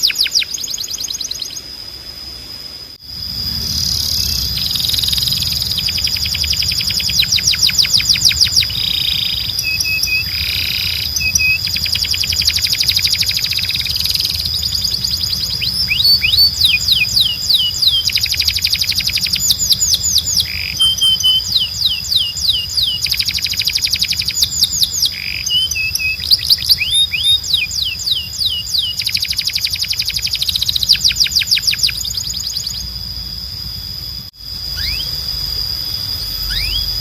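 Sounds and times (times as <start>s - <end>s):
canary singing trills: 0.0s - 1.9s, 3.1s - 37.0s
steady high tone: 2.9s - 29.0s, 29.8s - 37.0s.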